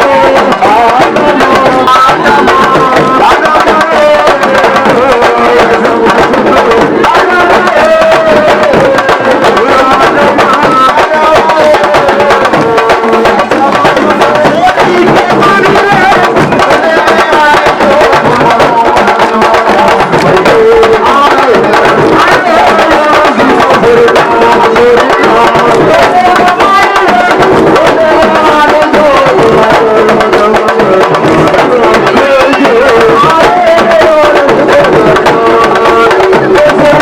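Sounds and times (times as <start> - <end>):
fast hand drumming: 0.0 - 37.0
voices singing or chanting: 0.0 - 37.0.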